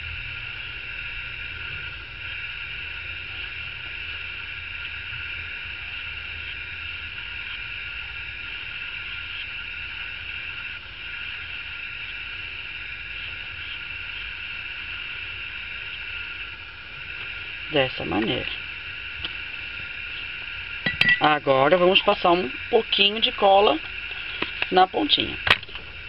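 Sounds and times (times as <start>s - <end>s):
low hum: 0.0s - 26.0s
steady background hiss: 0.0s - 26.0s.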